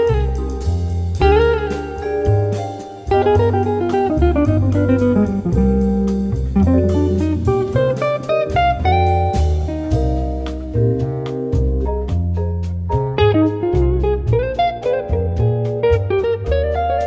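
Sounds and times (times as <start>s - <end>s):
held bass notes: 0.0s - 17.0s
light percussion: 0.0s - 17.0s
plucked guitar melody: 0.0s - 17.0s.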